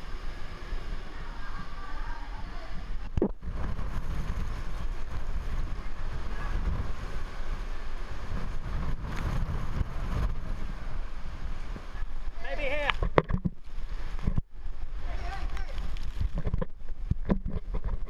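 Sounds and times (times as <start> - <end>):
driving rain: 0.0 - 17.4
wind buffeting microphone: 0.0 - 18.0.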